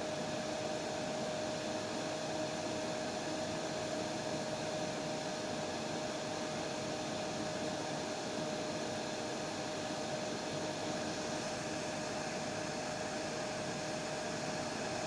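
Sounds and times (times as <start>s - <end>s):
hair dryer running: 2.8s - 15.0s.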